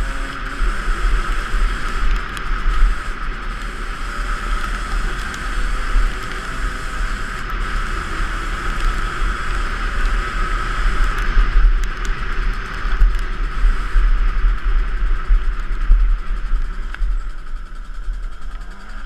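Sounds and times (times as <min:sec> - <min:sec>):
muffled dirt bike engine: 0:00.0 - 0:19.0.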